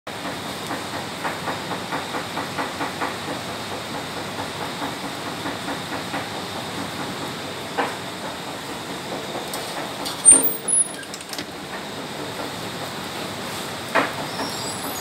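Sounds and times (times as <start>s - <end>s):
gas burner hissing: 0.2s - 15.0s.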